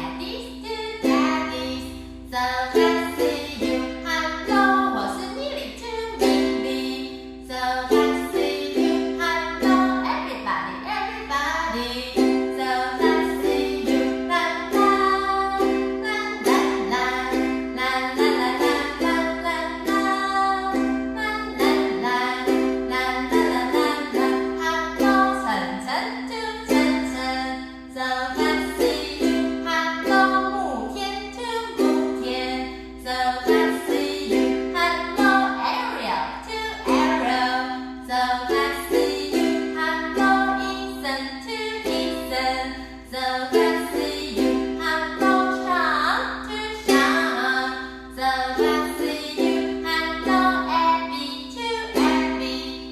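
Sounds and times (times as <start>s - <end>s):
ukulele strumming: 0.0s - 52.9s.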